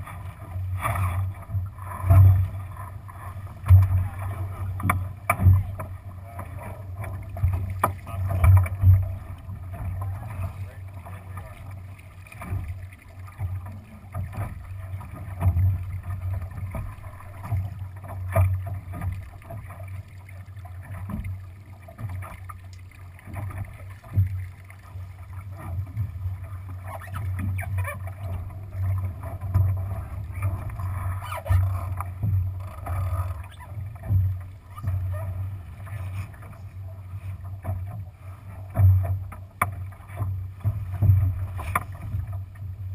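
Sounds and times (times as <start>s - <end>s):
water rushing along boat hull: 0.0s - 42.9s.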